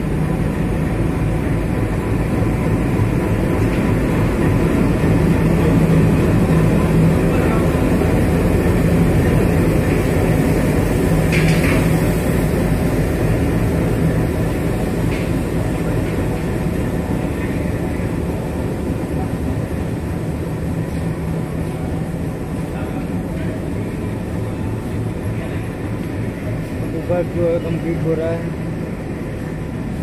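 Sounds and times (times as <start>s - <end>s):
diesel locomotive engine droning: 0.0s - 30.0s.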